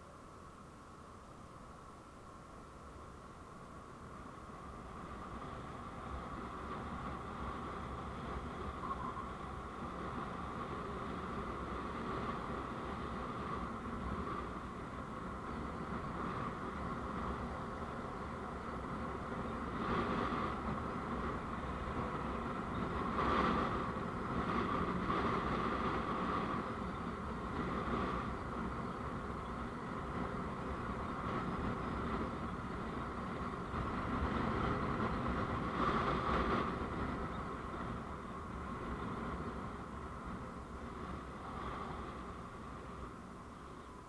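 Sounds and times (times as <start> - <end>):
vehicle road and engine noise: 0.0 - 44.0.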